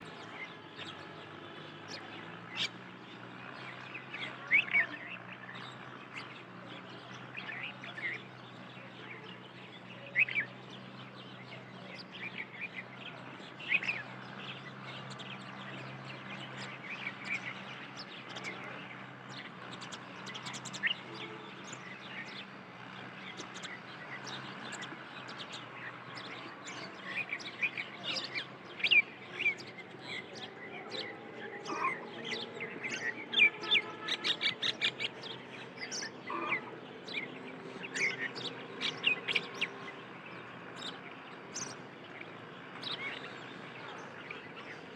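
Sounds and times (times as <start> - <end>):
wild birds chirping: 0.0 - 44.9.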